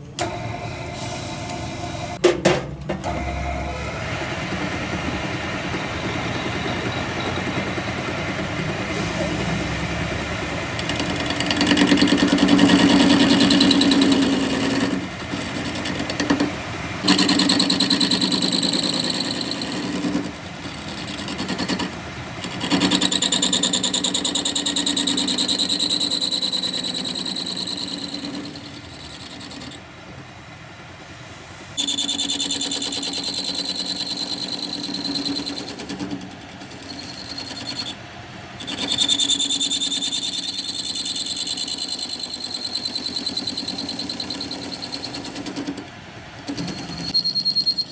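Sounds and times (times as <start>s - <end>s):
metalworking machine cutting iron: 3.0s - 29.9s, 31.8s - 38.0s, 38.6s - 47.9s.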